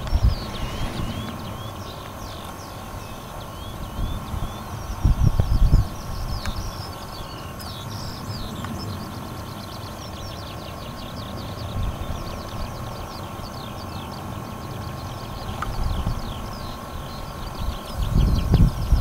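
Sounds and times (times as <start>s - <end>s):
skylark chirps and trills: 0.0s - 19.0s
wind buffeting microphone: 0.0s - 19.0s.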